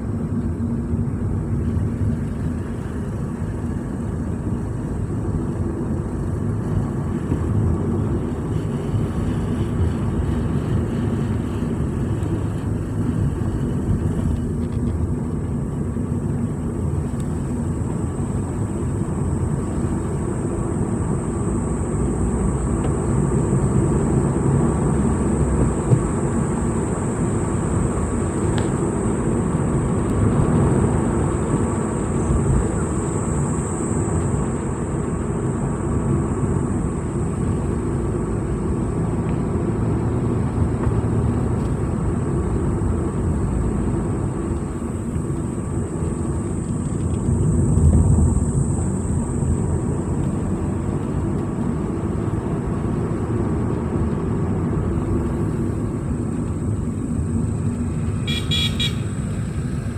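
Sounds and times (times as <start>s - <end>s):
vehicle engine and tyre noise: 0.0s - 59.9s.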